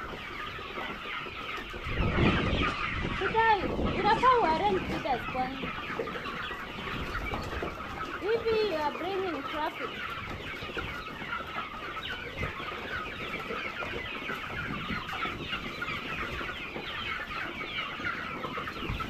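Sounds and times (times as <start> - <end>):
flock of chickens clucking: 0.0 - 19.0.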